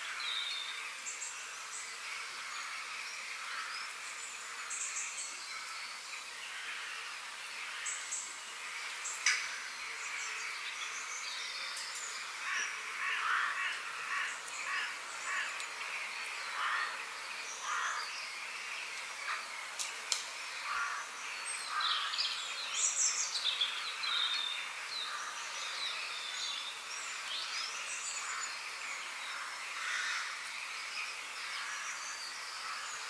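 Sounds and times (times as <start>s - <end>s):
birds calling and singing: 0.0s - 33.0s
steady background hiss: 0.0s - 33.0s.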